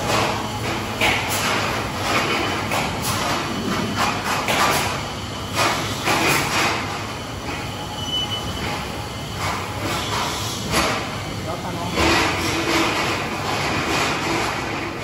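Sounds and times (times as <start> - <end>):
workshop machinery noise: 0.0 - 15.0.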